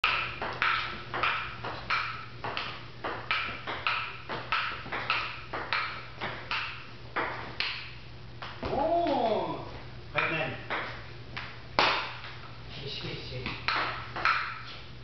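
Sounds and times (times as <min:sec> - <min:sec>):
ping-pong ball hitting paddles and table: 0:00.0 - 0:09.4, 0:10.1 - 0:12.5, 0:13.4 - 0:14.8.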